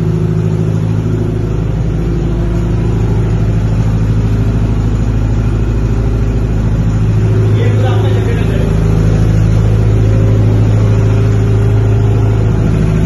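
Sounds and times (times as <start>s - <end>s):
diesel generator running: 0.0s - 13.0s.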